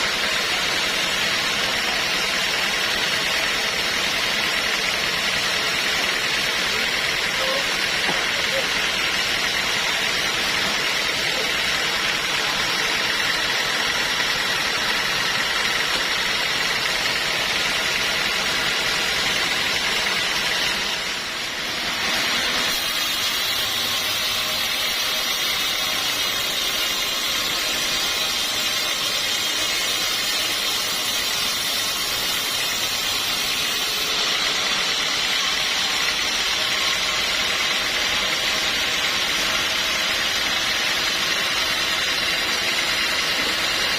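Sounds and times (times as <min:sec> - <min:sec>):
saw high whine: 0:00.0 - 0:43.9.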